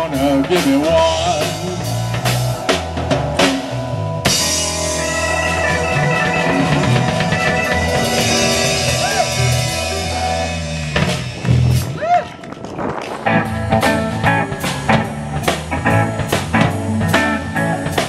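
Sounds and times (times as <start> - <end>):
electric guitar bent notes: 0.0 - 18.0
live blues band playing: 0.0 - 18.0.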